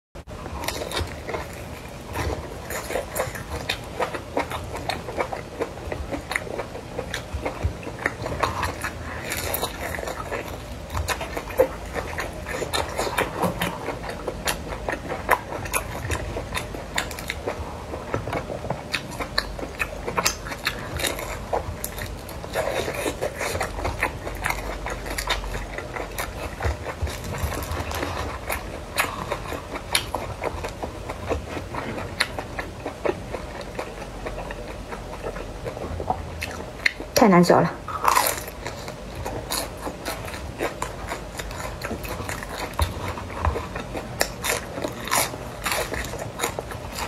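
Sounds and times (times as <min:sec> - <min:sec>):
crunchy chewing: 0:00.3 - 0:37.2, 0:37.8 - 0:47.0.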